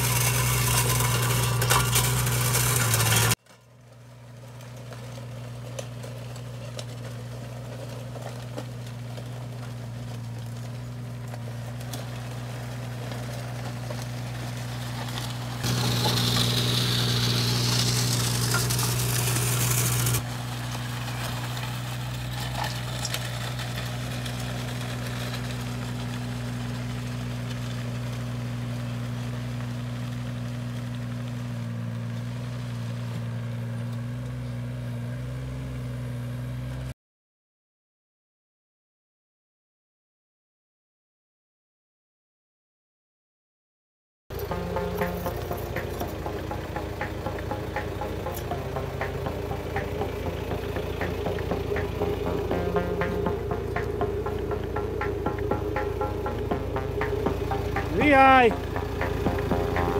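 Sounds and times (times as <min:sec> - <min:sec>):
heavy machine engine running: 0:00.0 - 0:35.5, 0:44.3 - 0:59.9.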